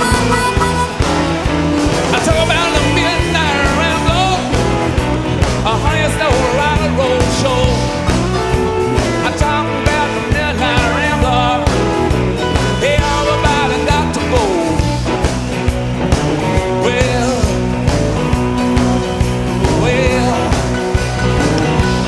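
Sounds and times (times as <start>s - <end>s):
bass guitar: 0.0s - 22.0s
drums: 0.0s - 22.0s
electric guitars: 0.0s - 22.0s.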